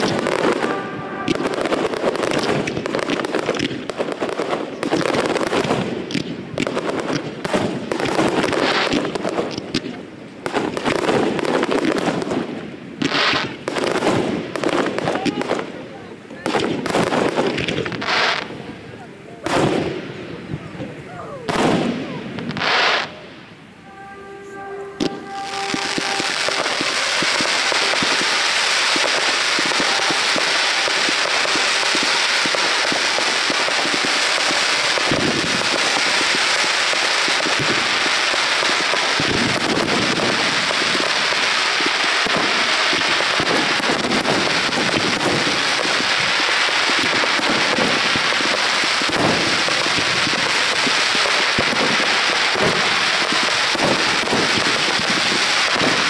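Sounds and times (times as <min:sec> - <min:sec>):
fireworks popping and banging: 0:00.0 - 0:56.0.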